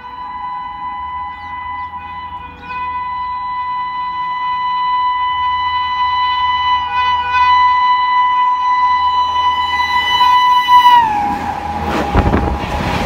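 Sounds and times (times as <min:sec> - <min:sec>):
locomotive horn blast: 0:00.0 - 0:13.0.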